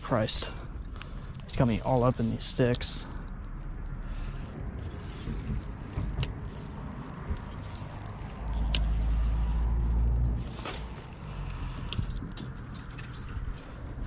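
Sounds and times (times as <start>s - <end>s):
rattling and rustling handling noise: 0.0s - 14.0s.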